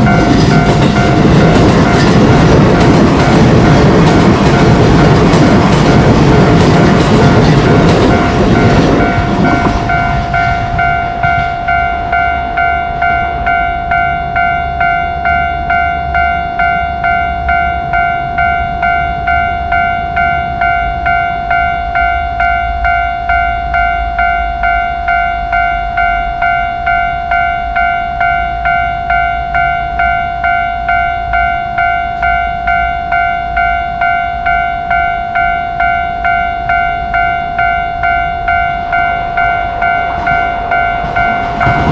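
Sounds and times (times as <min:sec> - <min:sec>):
train rumble and clatter: 0:00.0 - 0:23.9, 0:25.5 - 0:41.9
level-crossing warning bell: 0:00.0 - 0:41.9.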